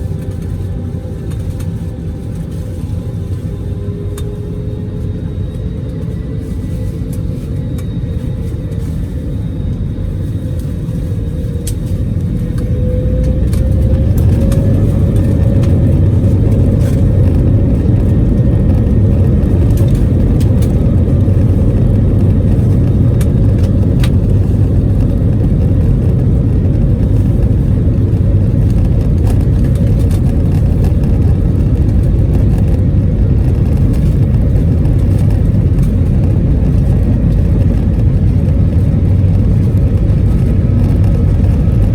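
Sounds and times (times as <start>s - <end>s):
low rumble: 0.0s - 41.9s.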